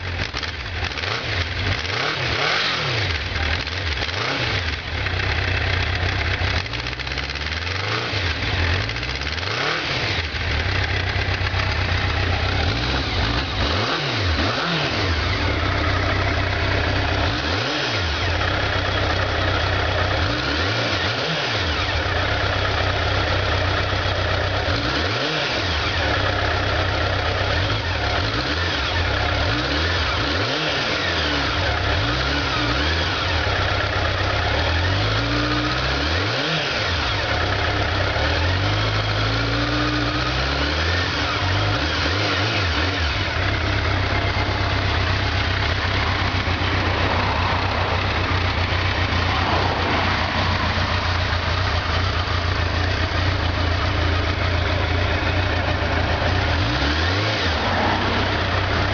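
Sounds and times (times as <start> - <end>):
motorcycle engine idling: 0.0 - 58.9.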